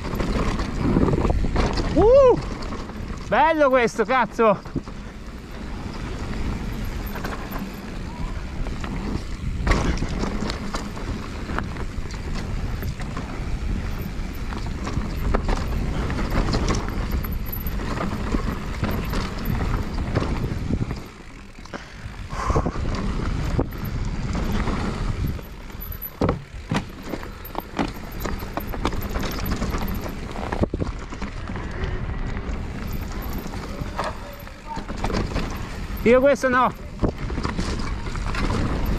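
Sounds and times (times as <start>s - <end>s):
bike rattling over bumps: 0.0s - 38.9s
bike tyres on dirt trail: 0.0s - 38.9s.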